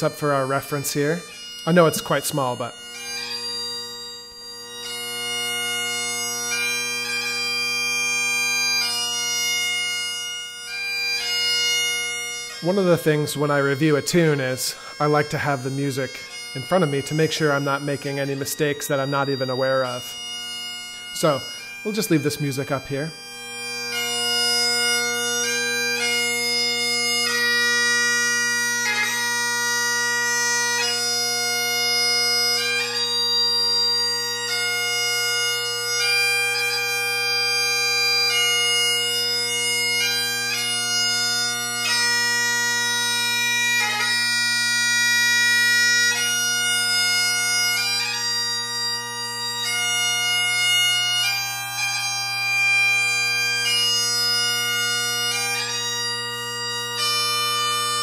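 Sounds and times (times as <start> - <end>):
bagpipe chanter melody: 0.0 - 58.0
bagpipe drones: 0.0 - 58.0.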